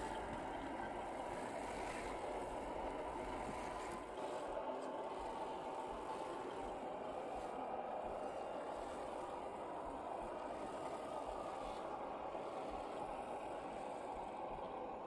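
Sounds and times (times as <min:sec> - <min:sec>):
rc truck motors whirring: 0:00.0 - 0:15.0.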